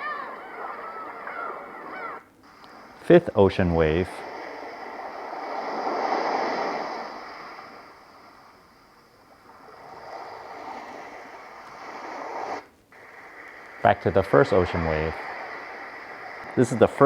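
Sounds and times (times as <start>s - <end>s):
ocean waves from white noise machine: 0.0s - 17.0s.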